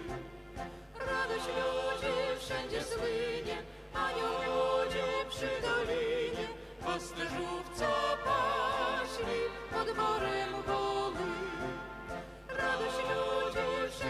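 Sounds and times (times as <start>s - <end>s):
mixed choir singing a carol: 0.0s - 14.0s.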